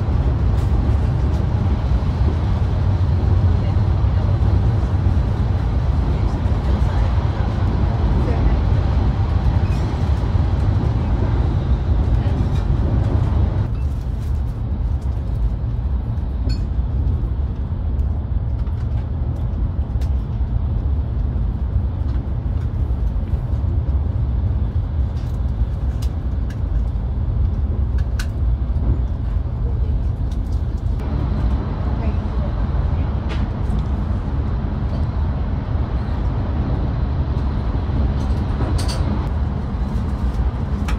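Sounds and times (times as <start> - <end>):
train rumbling inside cabin: 0.0 - 40.9.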